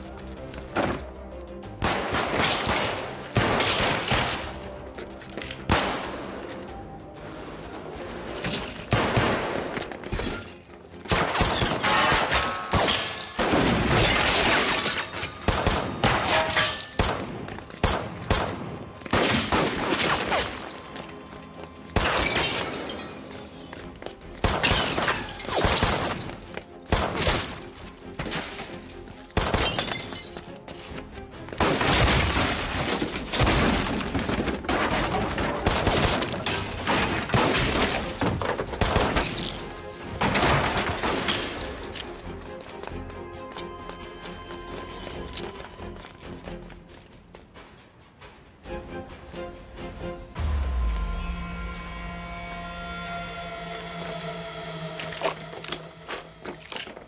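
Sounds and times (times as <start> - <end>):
tense action music: 0.0 - 57.0.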